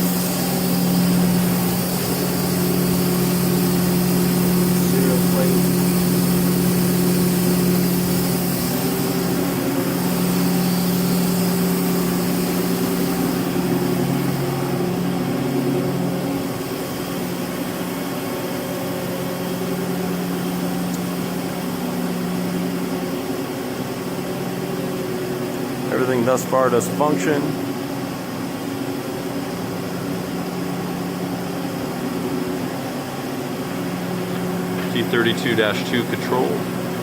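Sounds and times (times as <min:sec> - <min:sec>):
lathe machine hum: 0:00.0 - 0:37.0
machine hiss: 0:00.0 - 0:37.0.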